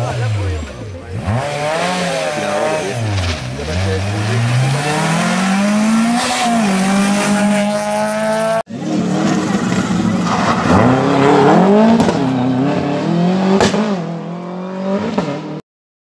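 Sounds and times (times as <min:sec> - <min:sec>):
rally car engine revving: 0:00.0 - 0:15.6.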